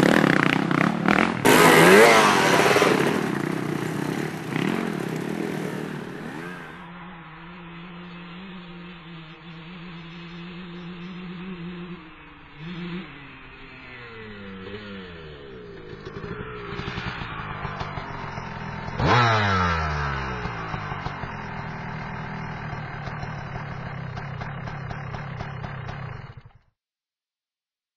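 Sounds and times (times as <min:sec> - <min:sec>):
motorcycle engines revving: 0:00.0 - 0:26.6.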